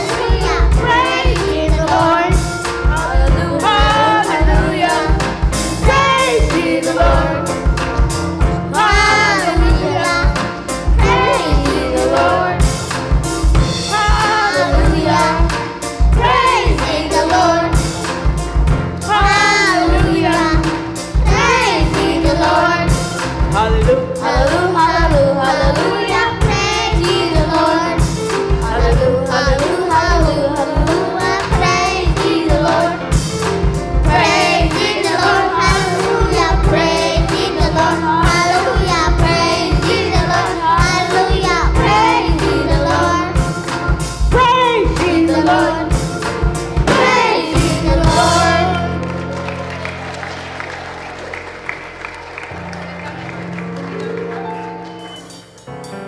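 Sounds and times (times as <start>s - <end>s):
young voices singing together: 0.0s - 49.2s
drums and band: 0.0s - 56.0s.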